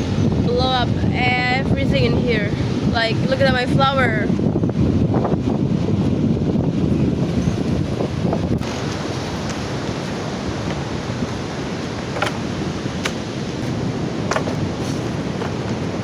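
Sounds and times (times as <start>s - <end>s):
strong wind: 0.0s - 16.0s
surf on beach: 0.0s - 16.0s
wind on microphone: 0.0s - 16.0s.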